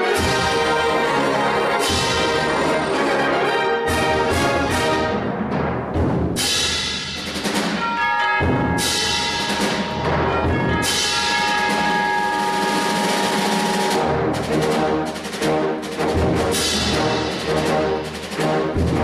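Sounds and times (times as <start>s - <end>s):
percussion hits: 0.0s - 3.0s, 3.9s - 19.0s
concert band chords: 3.4s - 19.0s.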